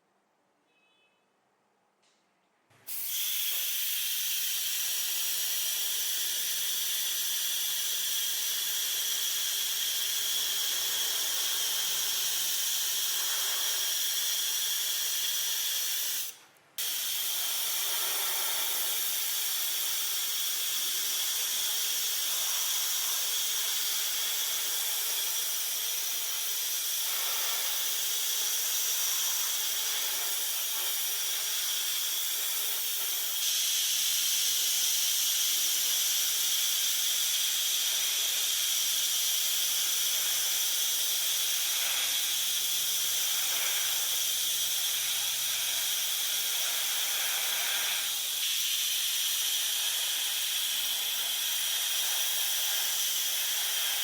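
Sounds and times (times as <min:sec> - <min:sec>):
compressed-air jet hissing: 0:02.9 - 0:54.0.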